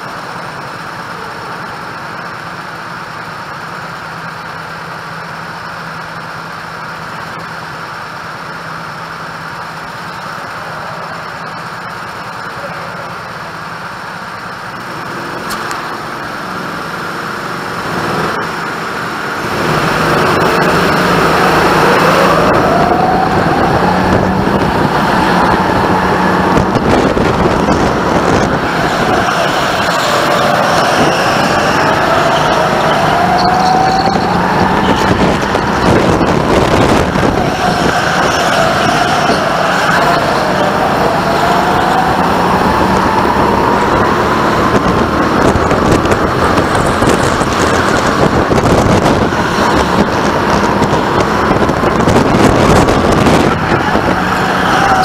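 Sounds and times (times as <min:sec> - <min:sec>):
go-kart engines accelerating: 0:00.0 - 0:55.0.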